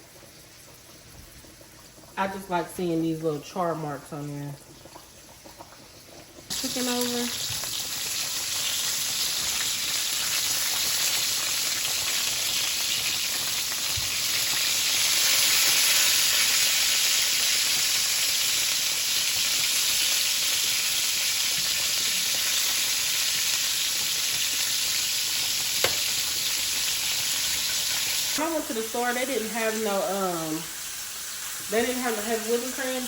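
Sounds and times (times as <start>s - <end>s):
chicken sizzling in a skillet: 0.0s - 33.0s.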